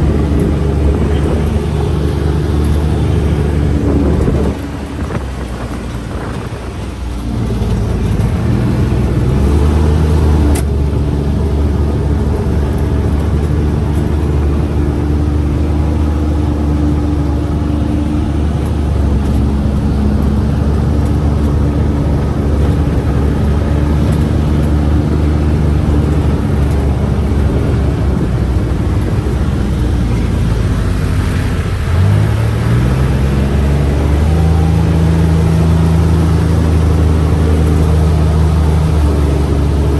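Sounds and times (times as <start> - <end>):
utility vehicle engine accelerating: 0.0 - 39.9.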